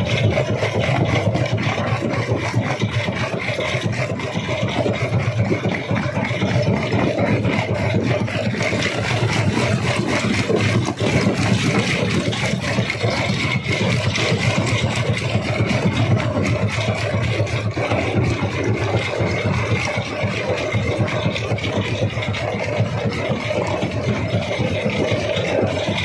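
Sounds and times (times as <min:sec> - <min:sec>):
rock crusher machine drone: 0:00.0 - 0:26.0.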